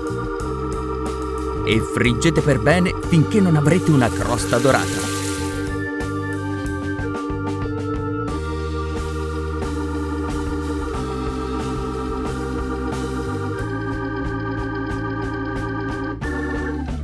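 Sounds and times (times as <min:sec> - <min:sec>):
organ-like chords over a beat: 0:00.0 - 0:17.0.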